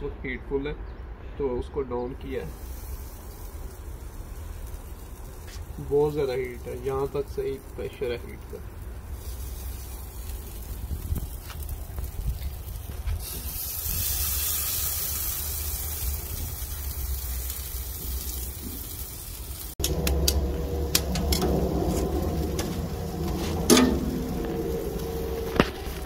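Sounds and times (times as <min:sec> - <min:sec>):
chicken sizzling on grill: 0:02.3 - 0:26.0
charcoal crackling and popping: 0:02.4 - 0:26.0.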